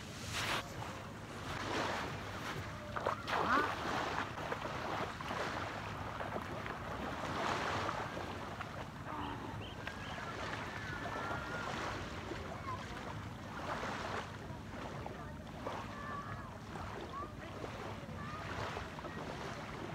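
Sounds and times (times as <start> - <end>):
surf washing in: 0.0 - 19.9.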